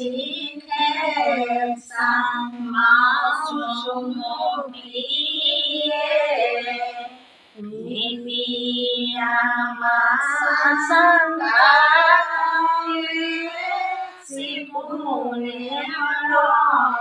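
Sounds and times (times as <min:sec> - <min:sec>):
women singing a hymn: 0:00.0 - 0:17.0.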